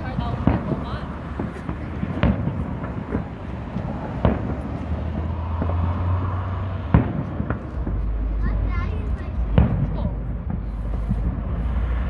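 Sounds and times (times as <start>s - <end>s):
firework shells booming: 0.0s - 12.0s
low rumble: 0.0s - 12.0s.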